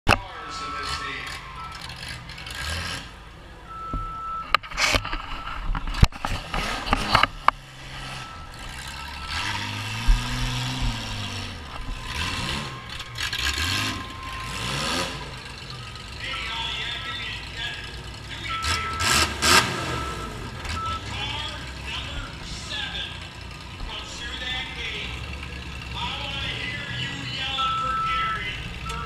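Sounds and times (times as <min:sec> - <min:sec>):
car engine revving: 0:00.4 - 0:03.9, 0:04.6 - 0:29.0.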